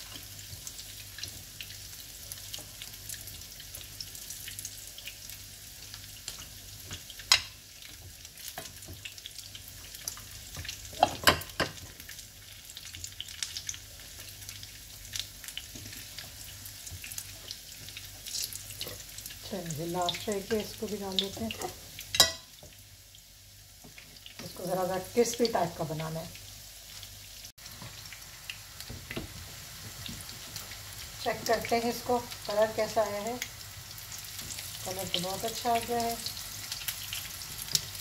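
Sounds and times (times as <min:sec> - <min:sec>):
meat sizzling in oil: 0:00.0 - 0:38.0.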